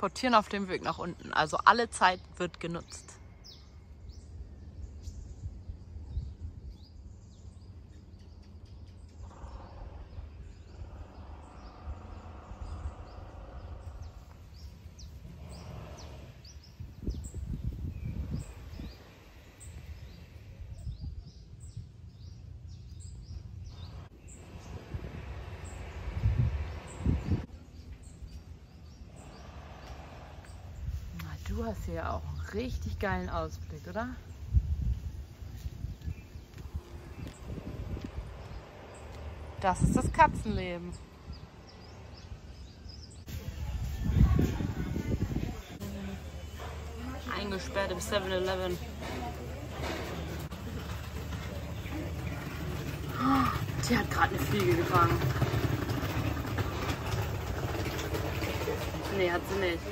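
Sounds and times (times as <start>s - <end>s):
low bumps: 0.0s - 59.9s
low outdoor rumble: 0.0s - 59.9s
small birds chirping: 0.0s - 59.9s.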